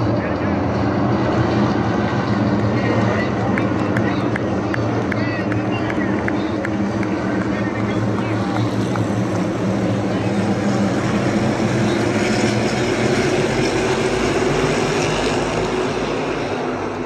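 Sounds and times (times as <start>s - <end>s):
race cars passing at full throttle: 0.0s - 17.0s.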